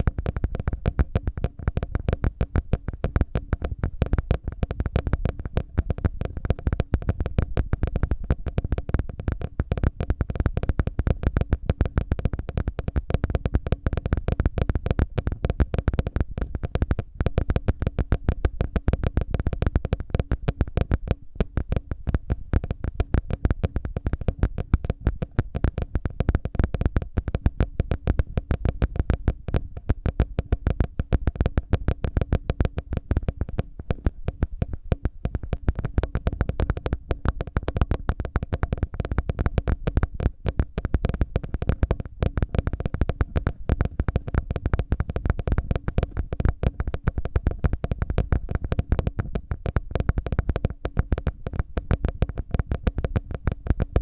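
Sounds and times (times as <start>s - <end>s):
ear pick scratching and clicking: 0.0s - 54.0s.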